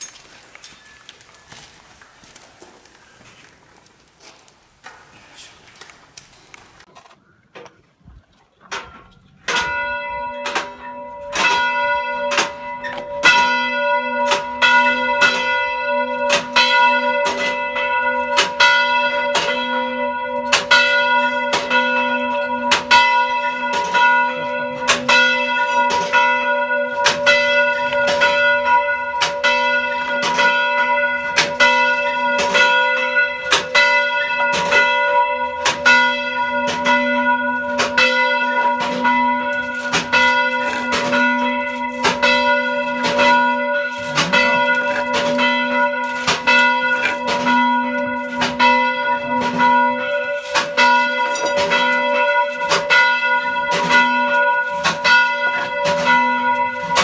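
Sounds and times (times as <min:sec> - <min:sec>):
church bell ringing: 0:09.4 - 0:57.0.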